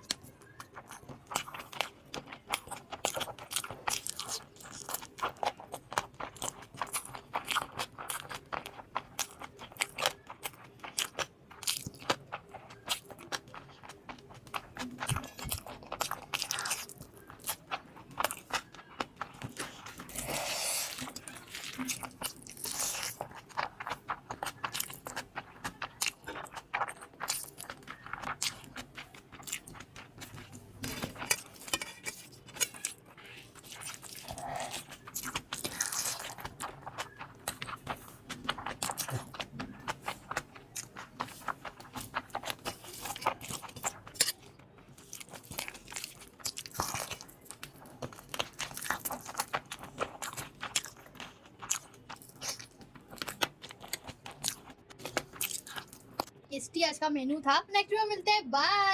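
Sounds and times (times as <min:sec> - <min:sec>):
person chewing and crunching food: 0:00.0 - 0:56.5.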